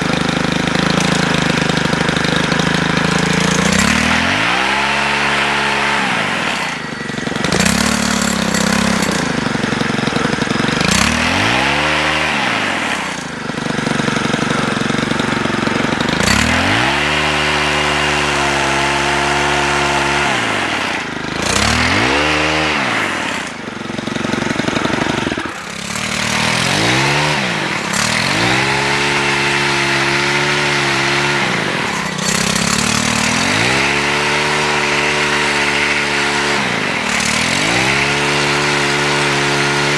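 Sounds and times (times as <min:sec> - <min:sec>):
pole saw engine revving: 0:00.0 - 0:39.9.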